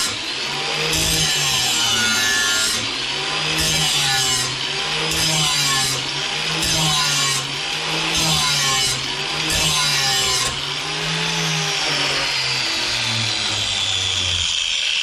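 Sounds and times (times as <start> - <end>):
grinding wheel on steel blade: 0.0 - 15.0
motor hum: 0.0 - 15.0.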